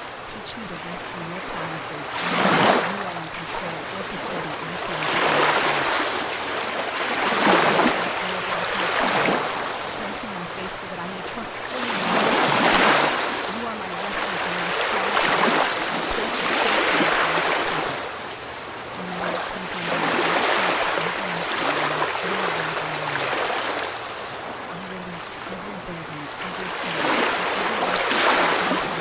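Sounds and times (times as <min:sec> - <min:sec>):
ocean waves washing ashore: 0:00.0 - 0:29.0.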